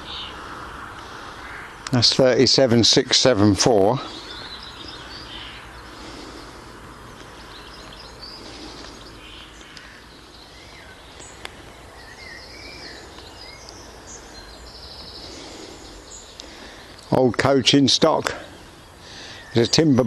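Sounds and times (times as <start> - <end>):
background hiss: 0.0 - 20.0
small birds chirping: 0.0 - 20.0.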